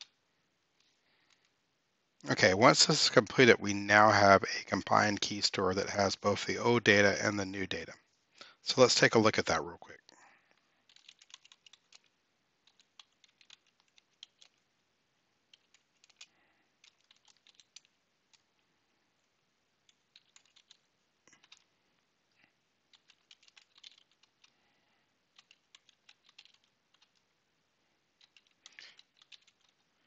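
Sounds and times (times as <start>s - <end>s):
faint keyboard typing: 0.0s - 1.6s, 2.2s - 30.0s.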